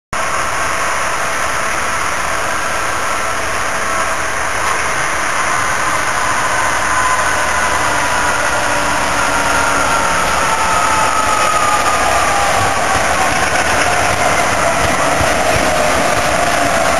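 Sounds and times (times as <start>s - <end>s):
diesel locomotive engine rumble: 0.1s - 16.9s
locomotive whine sliding lower: 0.2s - 16.9s.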